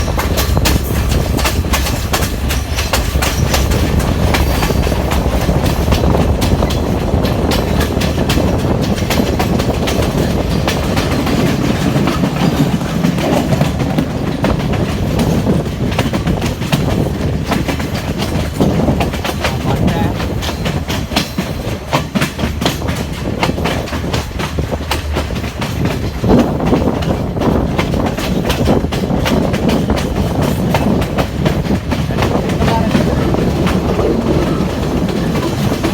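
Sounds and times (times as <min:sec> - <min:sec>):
train low rumble: 0:00.0 - 0:35.9
wheels clicking over rail joints: 0:00.0 - 0:35.9.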